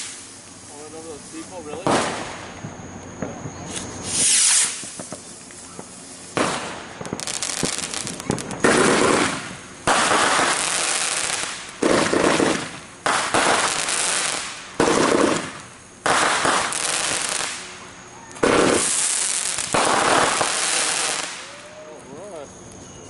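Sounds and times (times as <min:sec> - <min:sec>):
fireworks hissing bursts: 0:00.0 - 0:22.7
fireworks crackling: 0:00.0 - 0:23.0.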